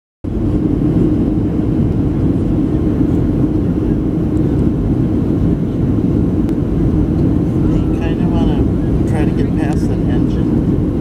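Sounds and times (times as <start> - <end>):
jet airliner cabin engine noise: 0.2 - 11.0.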